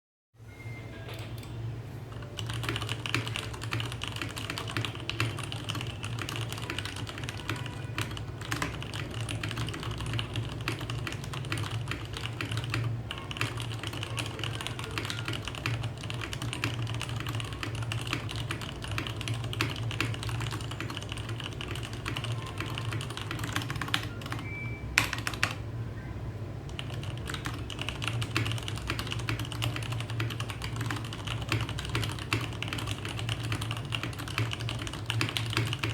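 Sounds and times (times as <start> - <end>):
mechanical keyboard typing: 2.1 - 25.6, 26.7 - 35.9.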